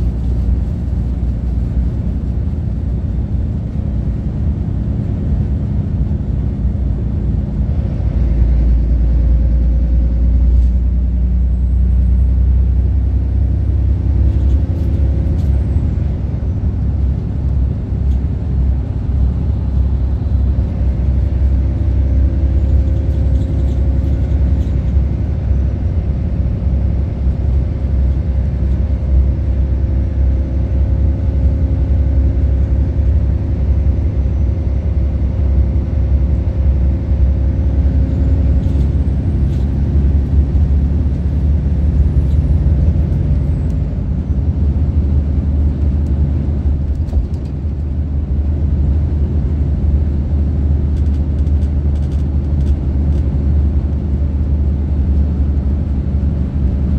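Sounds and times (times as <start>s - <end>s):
bus cabin low rumble: 0.0s - 56.9s.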